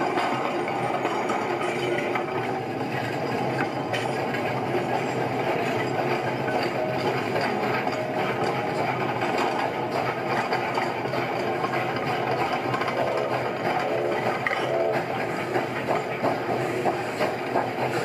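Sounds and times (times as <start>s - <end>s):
machine running steadily: 0.0s - 18.0s.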